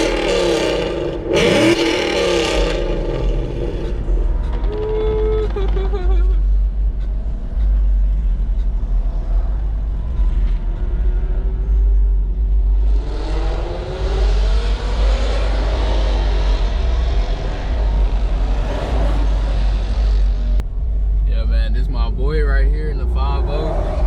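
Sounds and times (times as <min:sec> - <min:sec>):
car engine low rumble: 0:00.0 - 0:24.0
engine accelerating: 0:00.0 - 0:24.0.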